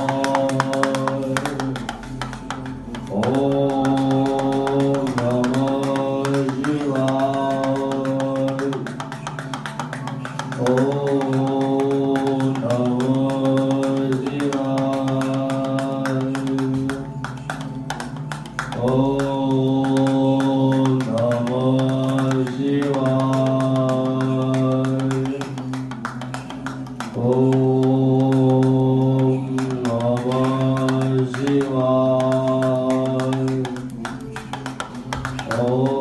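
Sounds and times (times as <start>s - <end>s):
person singing a chant: 0.0s - 36.0s.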